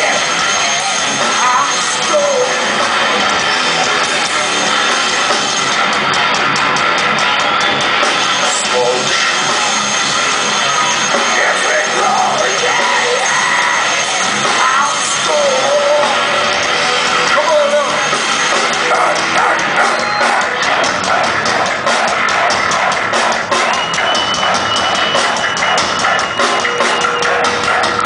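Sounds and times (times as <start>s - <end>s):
bass guitar: 0.0s - 28.0s
distorted electric guitars: 0.0s - 28.0s
drums: 0.0s - 28.0s
yelled vocals: 0.0s - 28.0s.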